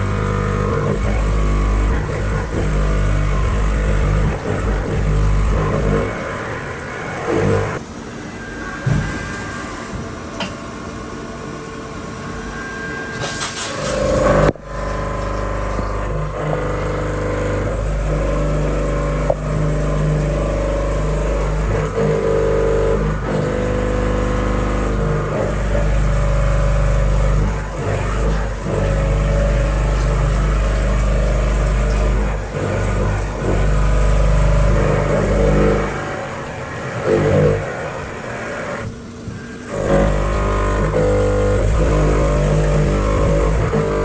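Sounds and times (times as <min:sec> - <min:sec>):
milling machine cutting steel: 0:00.0 - 0:07.8, 0:12.6 - 0:44.0.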